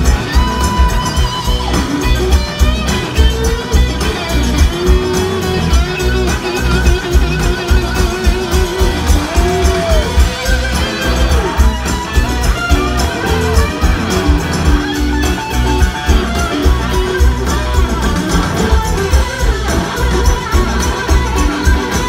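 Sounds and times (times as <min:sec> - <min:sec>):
bending lead guitar line: 0:00.0 - 0:22.0
live rock band playing: 0:00.0 - 0:22.0.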